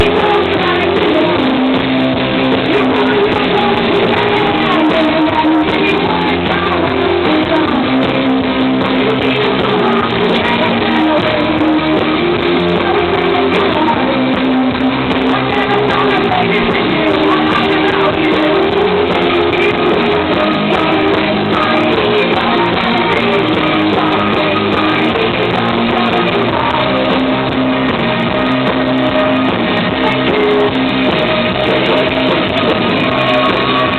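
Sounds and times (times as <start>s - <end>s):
rock band playing live: 0.0s - 33.9s.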